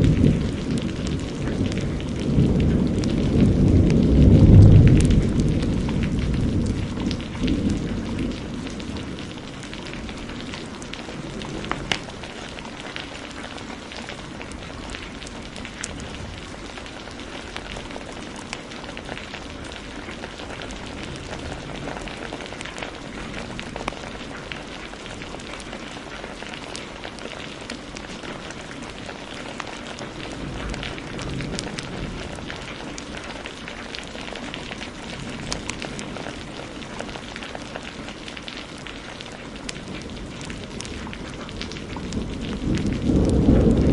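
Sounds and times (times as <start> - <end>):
low thunder rumble: 0.0 - 25.7, 30.0 - 37.2, 39.8 - 43.9
heavy rain hissing: 0.0 - 43.9
wood fire crackling: 0.0 - 43.9.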